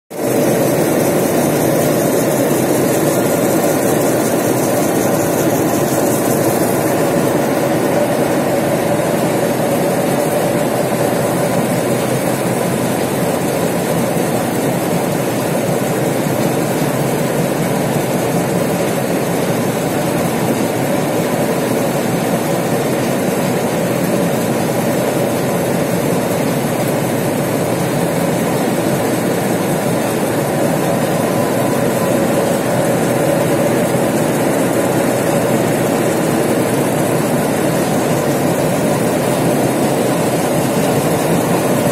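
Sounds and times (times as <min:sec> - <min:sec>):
conveyor belt rumbling: 0:00.1 - 0:41.9.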